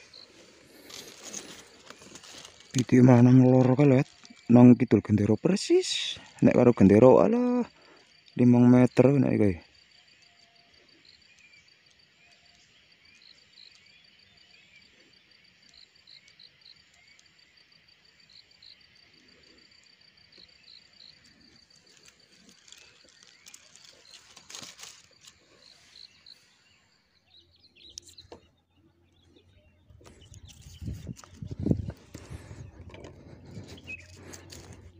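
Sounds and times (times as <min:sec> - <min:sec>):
faint insect chirps: 0:00.0 - 0:34.9
insects trilling: 0:00.0 - 0:34.9.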